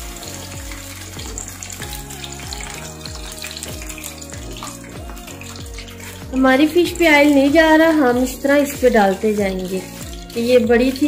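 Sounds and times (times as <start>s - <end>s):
background music with a beat: 0.0s - 11.0s
fish deep-frying in oil: 0.0s - 11.0s.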